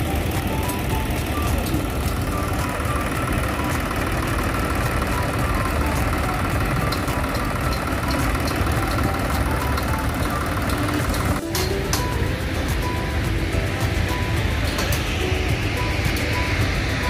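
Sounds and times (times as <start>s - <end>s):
diesel pump engine running: 0.0s - 17.0s.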